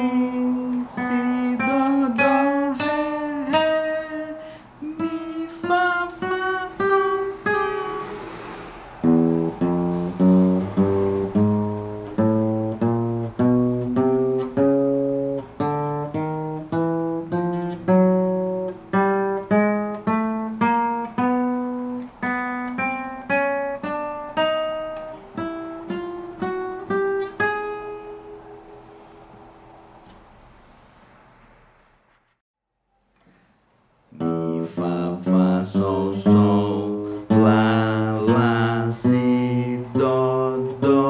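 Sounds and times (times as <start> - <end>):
acoustic guitar plucked notes: 0.0 - 8.4, 9.0 - 30.5, 34.2 - 41.0.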